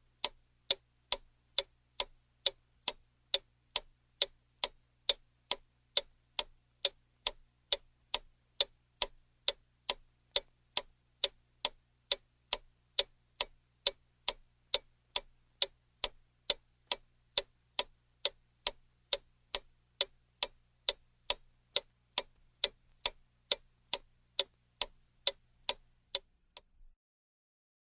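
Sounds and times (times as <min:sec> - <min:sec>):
clock ticking: 0:00.0 - 0:26.8.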